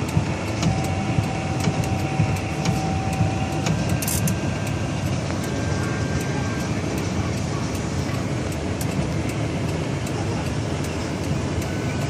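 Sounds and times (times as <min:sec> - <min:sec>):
sharp ticks: 0:00.0 - 0:11.8
motor vehicle rumbling: 0:00.0 - 0:12.0.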